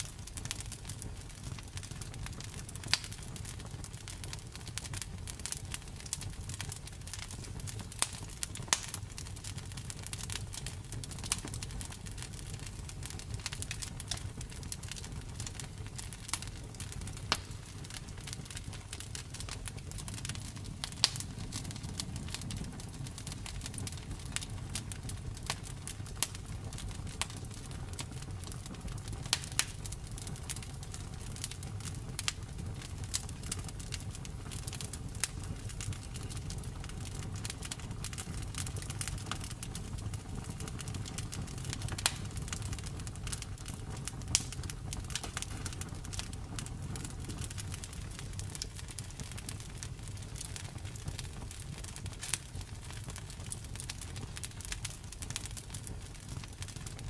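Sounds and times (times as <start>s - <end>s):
fireplace fire crackling: 0.0s - 57.0s.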